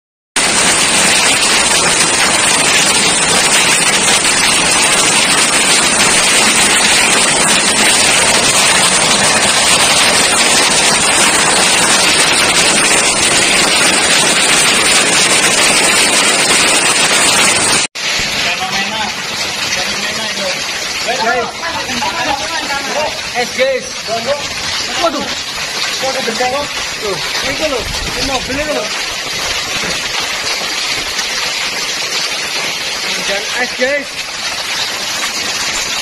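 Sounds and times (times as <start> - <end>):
heavy rain and hail on pavement: 0.4 - 36.0.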